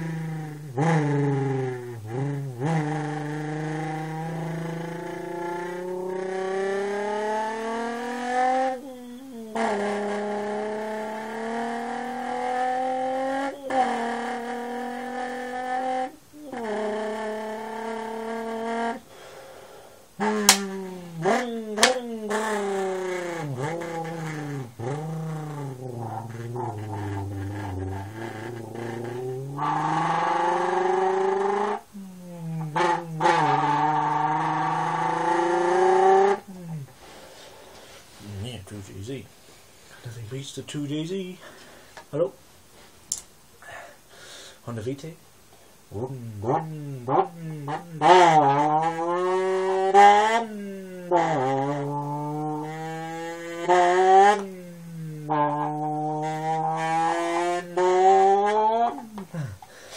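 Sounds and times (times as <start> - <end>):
person imitating car engine: 0.0 - 37.1, 38.1 - 39.3, 39.9 - 42.4, 45.8 - 59.9.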